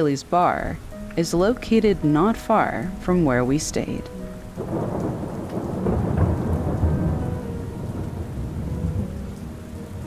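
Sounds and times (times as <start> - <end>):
faint background music: 0.0 - 10.0
steady rain: 0.0 - 10.0
rolling thunder: 1.4 - 10.0.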